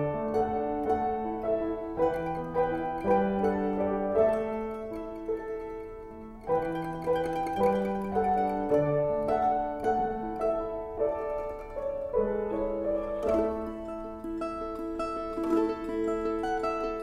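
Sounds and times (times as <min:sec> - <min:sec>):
banjo: 0:00.0 - 0:17.0
mandolin: 0:00.0 - 0:17.0.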